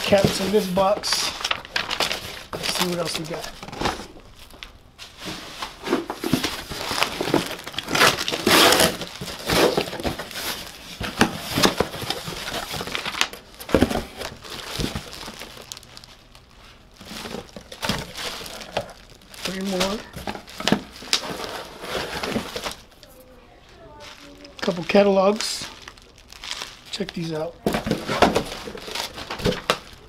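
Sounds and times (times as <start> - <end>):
packaging crinkling: 0.0 - 4.8, 5.6 - 30.0.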